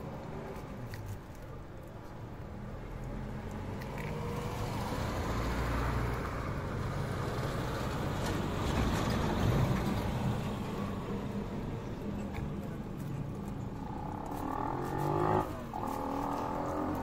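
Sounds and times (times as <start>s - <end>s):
tyre and road noise: 0.0s - 17.0s
vehicle engine hum: 0.0s - 17.0s.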